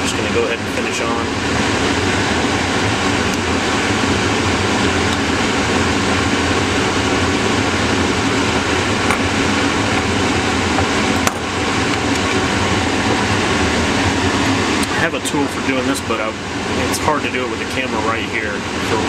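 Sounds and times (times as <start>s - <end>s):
fan-like air noise with hum: 0.0s - 19.0s.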